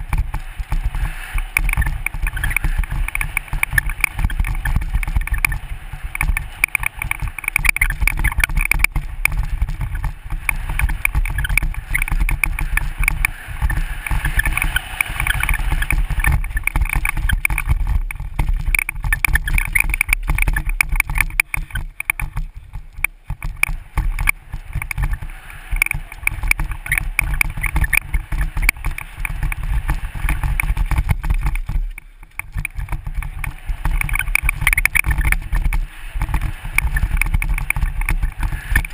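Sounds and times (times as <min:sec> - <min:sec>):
bike rattling over rocks: 0:00.0 - 0:38.9
wind buffeting microphone: 0:00.0 - 0:38.9.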